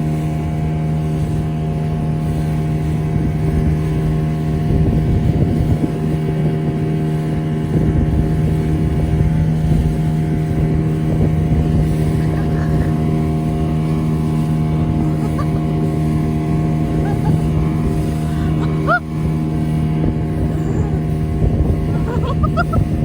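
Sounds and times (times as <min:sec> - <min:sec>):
boat engine running: 0:00.0 - 0:23.0
water noise: 0:00.0 - 0:23.0
wind: 0:00.0 - 0:23.0.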